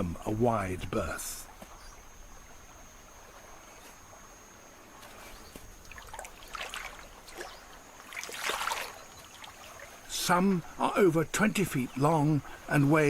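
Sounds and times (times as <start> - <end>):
river water splashing: 0.0 - 13.0.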